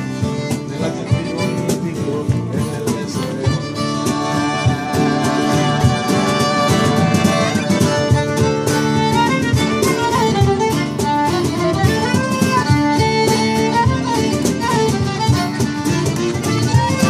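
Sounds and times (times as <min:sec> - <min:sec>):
fiddle melody: 0:00.0 - 0:02.2, 0:02.9 - 0:17.0
strummed acoustic guitars: 0:00.0 - 0:17.0
button accordion: 0:03.0 - 0:17.0.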